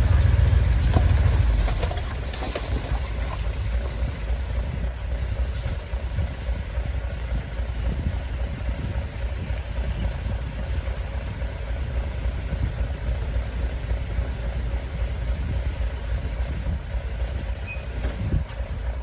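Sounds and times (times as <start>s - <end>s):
heavy machine diesel engine running: 0.0s - 19.0s.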